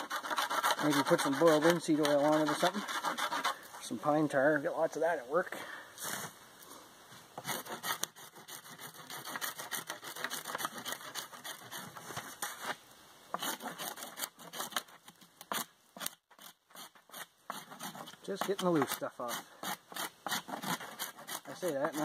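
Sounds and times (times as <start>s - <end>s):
knife scraping bark: 0.0s - 4.1s, 7.4s - 22.0s.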